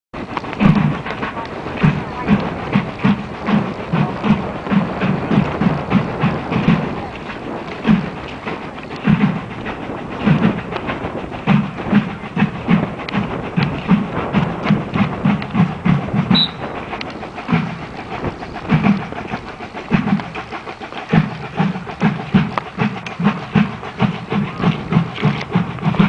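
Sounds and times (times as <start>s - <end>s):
low drum beats: 0.2s - 26.0s.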